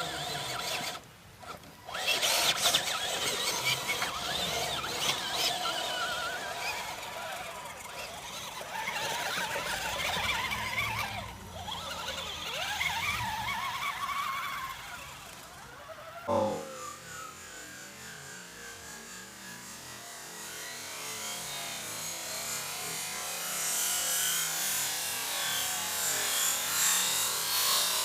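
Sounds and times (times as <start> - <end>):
toy truck motor whining: 0.0 - 19.1, 21.2 - 28.0.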